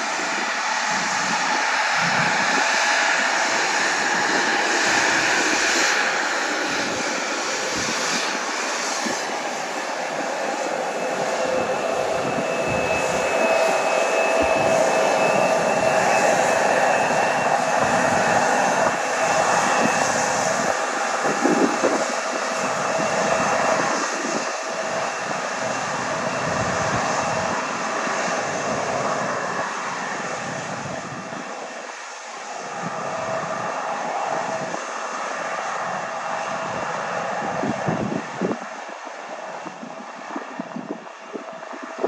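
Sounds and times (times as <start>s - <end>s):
jet engines running: 0.0s - 42.0s.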